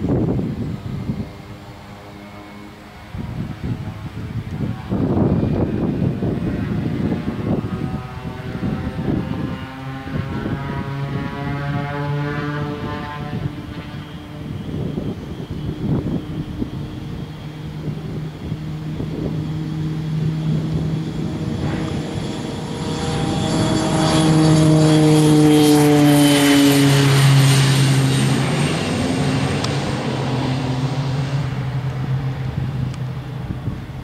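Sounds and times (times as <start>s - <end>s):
high turbine whine: 0.0s - 34.0s
turboprop aircraft taking off: 0.0s - 34.0s.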